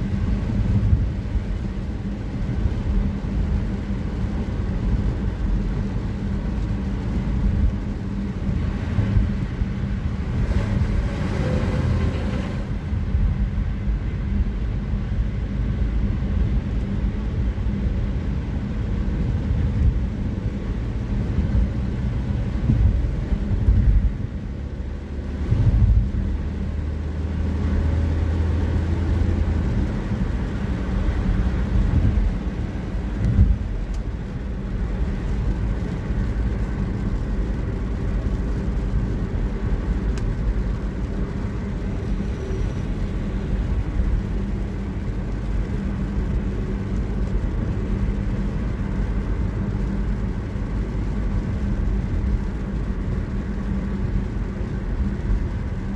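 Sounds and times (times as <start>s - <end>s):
car engine running: 0.0s - 55.9s
road traffic: 0.0s - 55.9s.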